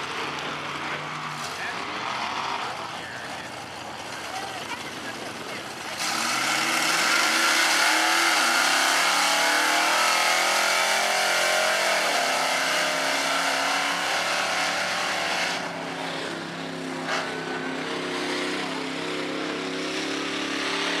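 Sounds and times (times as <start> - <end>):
truck engines running hard: 0.0 - 21.0.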